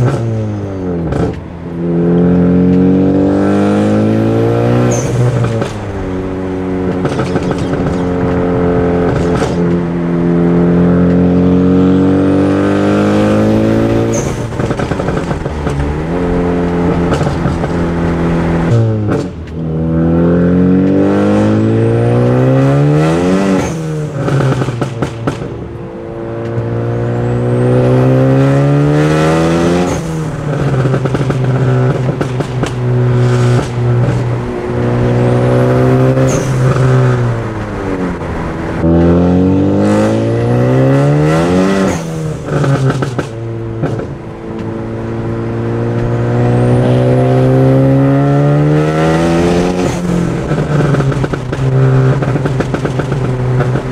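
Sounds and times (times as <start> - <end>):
car engine accelerating through gears: 0.0 - 53.9.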